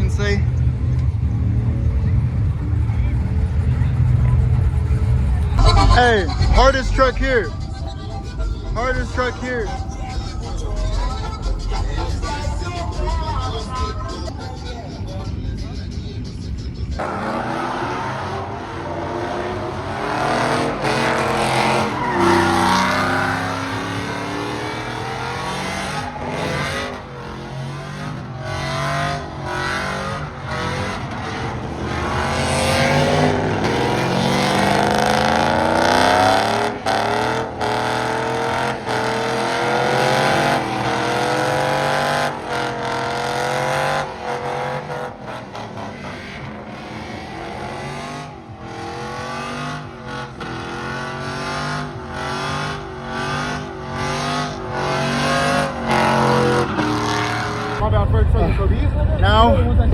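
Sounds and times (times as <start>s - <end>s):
truck engine revving: 0.0s - 59.9s
tire squeal: 3.2s - 57.9s.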